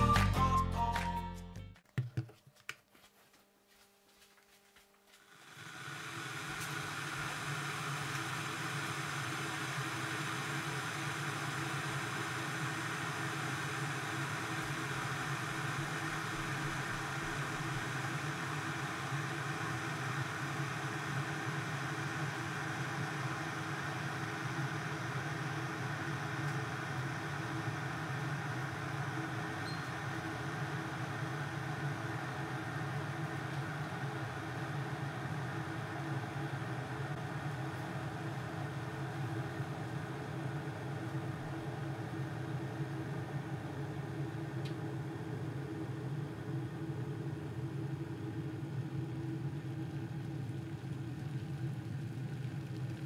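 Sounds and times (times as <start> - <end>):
electric kettle heating water: 5.1 - 53.0.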